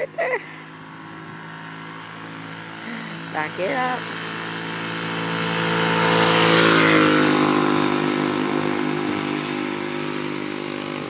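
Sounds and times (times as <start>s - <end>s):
go-kart engine passing: 0.0s - 11.0s.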